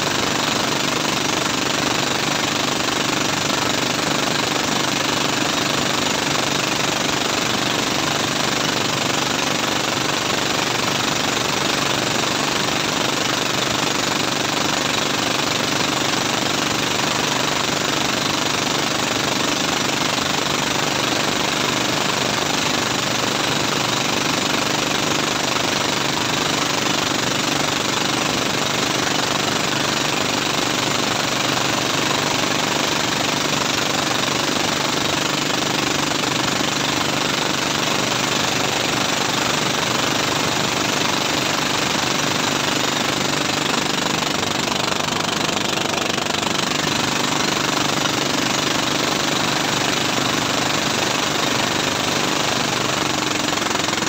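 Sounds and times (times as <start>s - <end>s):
boat engine running: 0.0s - 54.0s
rush of boat wake: 0.0s - 54.0s.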